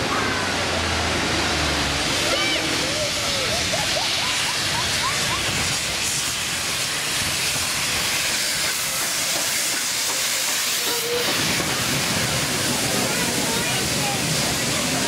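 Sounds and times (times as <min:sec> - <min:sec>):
loud hiss of steam: 0:00.0 - 0:15.0
steam locomotive moving slowly: 0:00.0 - 0:15.0.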